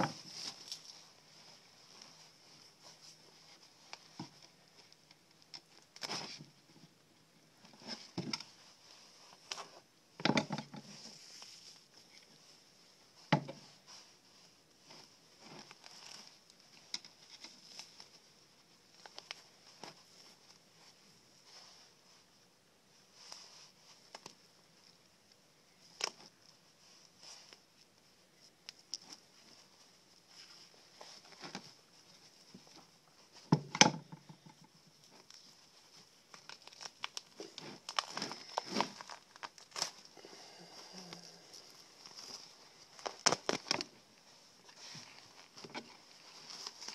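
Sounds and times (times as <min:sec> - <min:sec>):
crinkling and tearing handling: 0:00.0 - 0:06.9, 0:10.4 - 0:22.2, 0:23.1 - 0:46.9
soft rustling: 0:00.0 - 0:10.0, 0:10.6 - 0:46.9
faint high hiss: 0:00.0 - 0:46.9.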